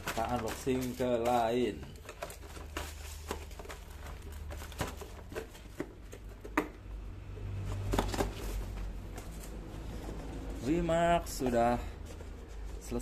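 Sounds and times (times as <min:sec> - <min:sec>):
cardboard boxes handled: 0:00.0 - 0:06.8, 0:07.5 - 0:13.0.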